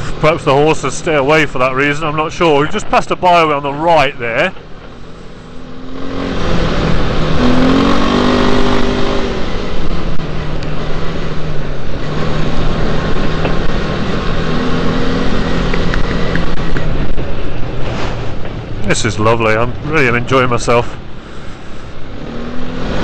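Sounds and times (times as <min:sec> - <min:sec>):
wind and riding noise: 0:00.0 - 0:23.0
motorcycle engine revving: 0:04.4 - 0:23.0.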